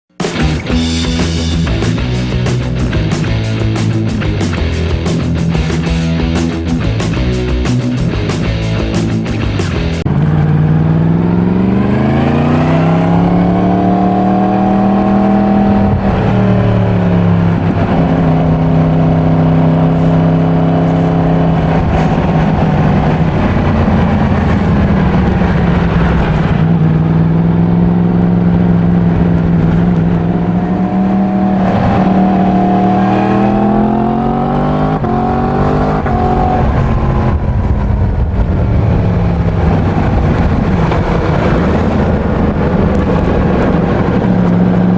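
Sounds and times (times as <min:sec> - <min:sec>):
motorcycle engine accelerating: 0:00.1 - 0:44.9.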